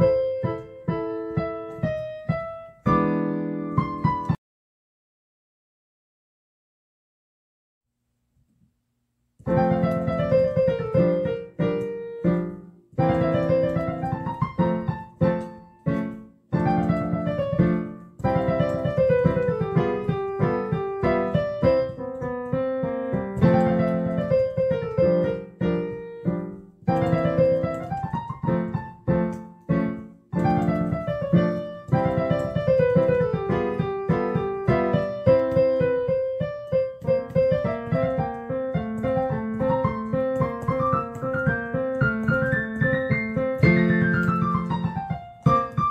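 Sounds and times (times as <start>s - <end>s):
piano music: 0.0s - 4.4s, 9.4s - 45.9s.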